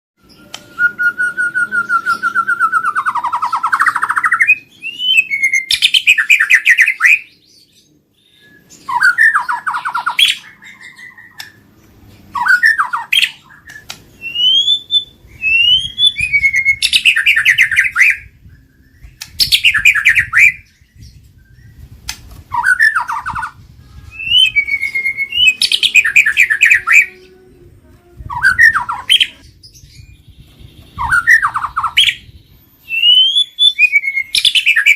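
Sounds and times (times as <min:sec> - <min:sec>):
songbird singing whistles: 0:00.2 - 0:11.7, 0:12.3 - 0:27.4, 0:28.2 - 0:34.9.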